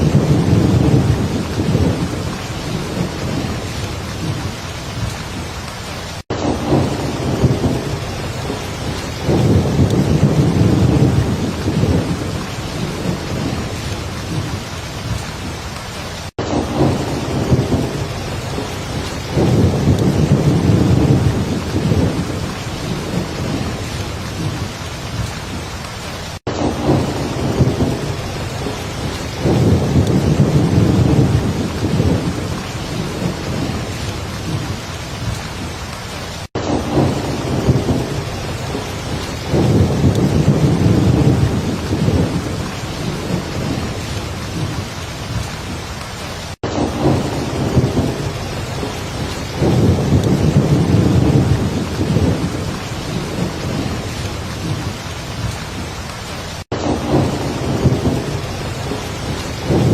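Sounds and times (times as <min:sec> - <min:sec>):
heavy rain: 0:00.0 - 0:59.9
rolling thunder: 0:00.0 - 0:59.9.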